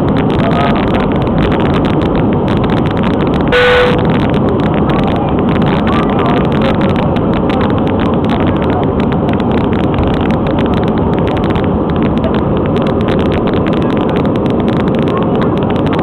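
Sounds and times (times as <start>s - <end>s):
jet engines roaring: 0.0s - 16.0s
rushing air: 0.0s - 16.0s.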